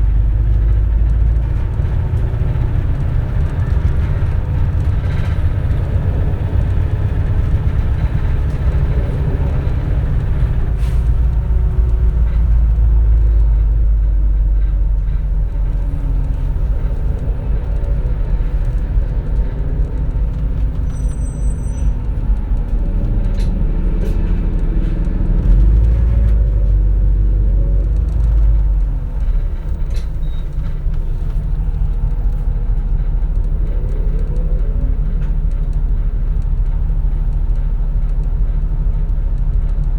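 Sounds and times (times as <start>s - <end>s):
bus engine running: 0.0s - 39.9s
low rumble of road noise: 0.0s - 39.9s.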